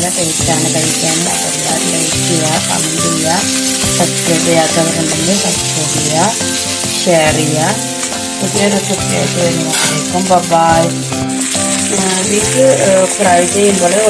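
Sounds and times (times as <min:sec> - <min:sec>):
background music: 0:00.0 - 0:14.0
meat and onions sizzling in pan: 0:00.0 - 0:14.0
spatula stirring in pan: 0:00.0 - 0:14.0.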